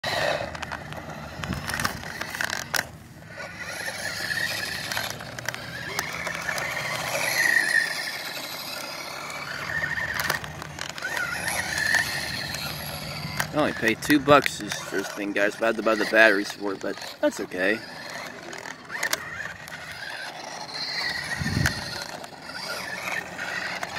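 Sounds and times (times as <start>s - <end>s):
toy car electric motor whining: 0.0s - 23.9s.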